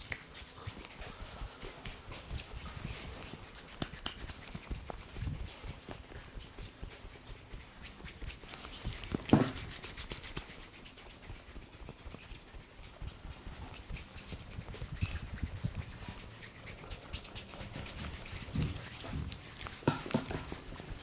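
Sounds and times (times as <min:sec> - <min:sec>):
fingers rubbing hair and scalp: 0:00.0 - 0:21.0.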